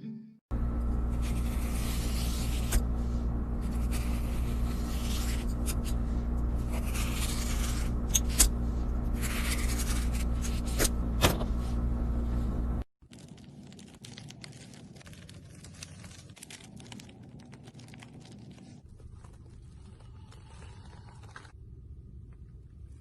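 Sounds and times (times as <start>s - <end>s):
low machine hum: 0.5s - 23.0s.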